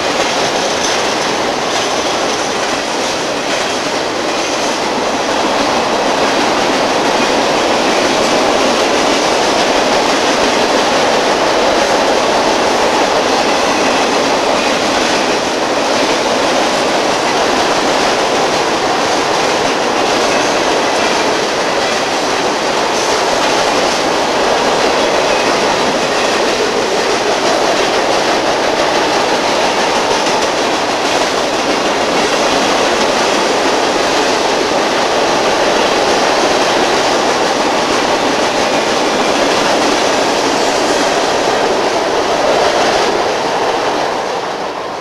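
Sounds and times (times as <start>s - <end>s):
freight train rolling over bridge: 0.0s - 45.0s.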